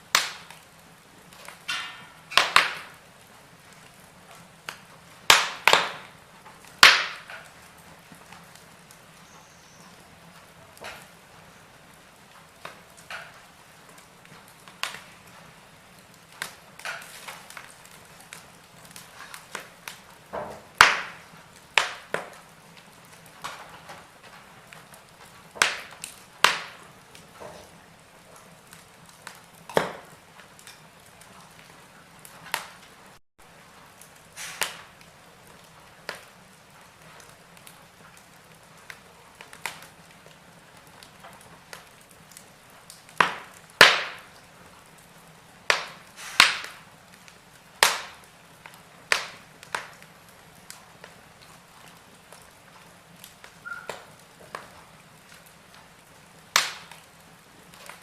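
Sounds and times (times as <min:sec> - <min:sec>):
faint steady hiss: 0:00.0 - 0:58.0
wood fire crackling: 0:00.0 - 0:58.0.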